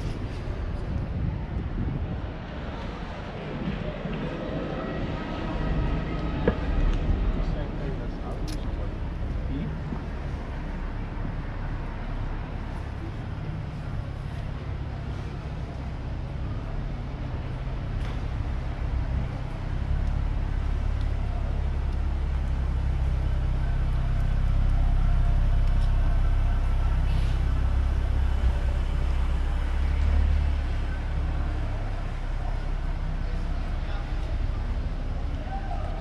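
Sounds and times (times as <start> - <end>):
vehicle engine rumbling: 0.0 - 36.0.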